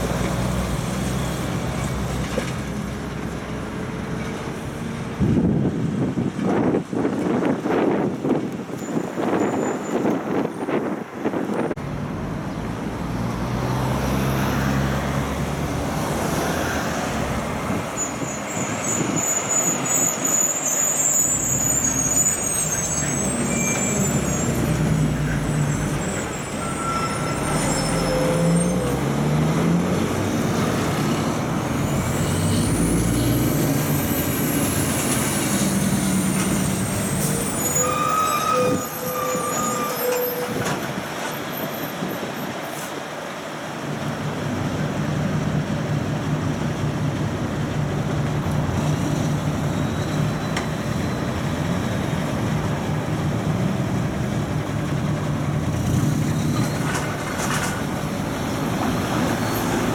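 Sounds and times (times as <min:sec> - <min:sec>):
diesel trucks driving past: 0:00.0 - 0:07.6, 0:08.8 - 0:59.9.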